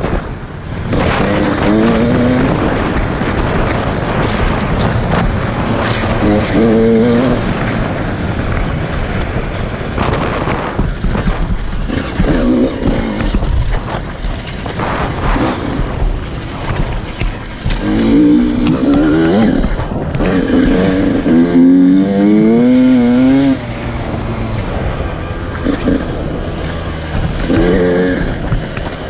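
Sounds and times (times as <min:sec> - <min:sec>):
dirt bike engine revving: 0:00.0 - 0:29.0
ground noise: 0:00.0 - 0:29.0
wind rush: 0:00.0 - 0:29.0.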